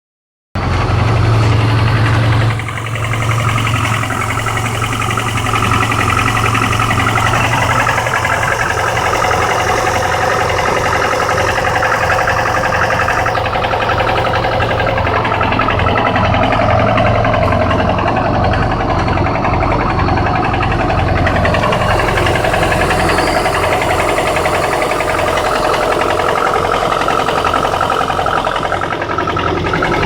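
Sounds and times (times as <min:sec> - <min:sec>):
car engine running: 0:00.6 - 0:30.0.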